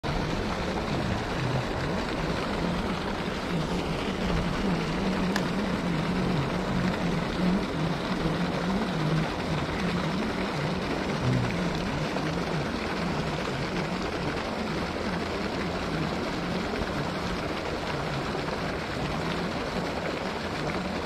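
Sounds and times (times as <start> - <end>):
fountain water jet splashing: 0.0 - 21.0
low wavering hum: 0.0 - 21.0.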